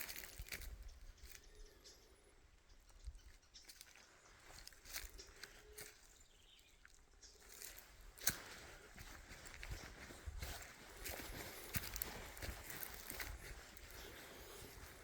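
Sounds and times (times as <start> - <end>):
footsteps crunching on trail: 0.0 - 1.5, 3.2 - 15.0.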